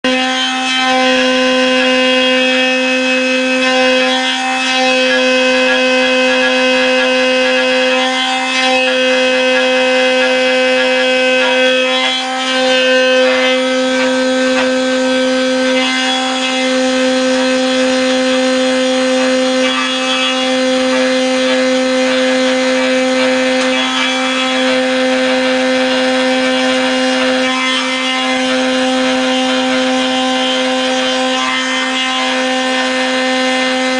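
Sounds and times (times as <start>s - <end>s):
cutter rasping wood: 0.0s - 33.9s
router spindle whining: 0.0s - 33.9s.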